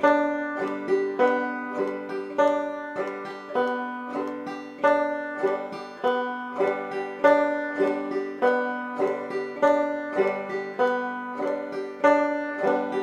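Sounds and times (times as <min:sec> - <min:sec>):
banjo frailing strum: 0:00.0 - 0:13.0.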